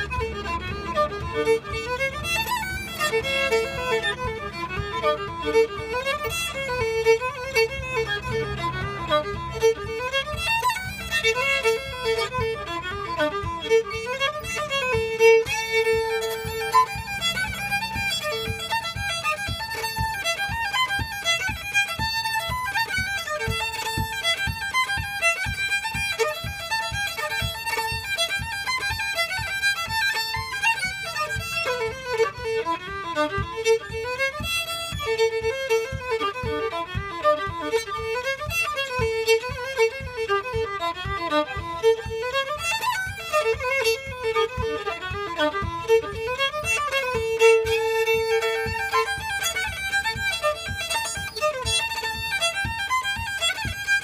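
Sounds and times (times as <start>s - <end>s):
solo fiddle playing a reel: 0.0s - 54.0s.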